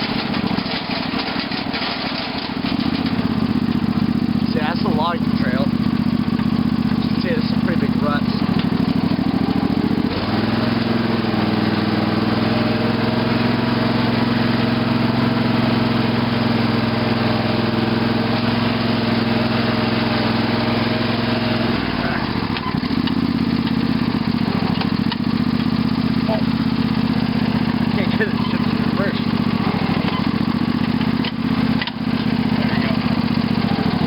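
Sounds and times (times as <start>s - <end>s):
lawn tractor engine running: 0.0s - 34.0s.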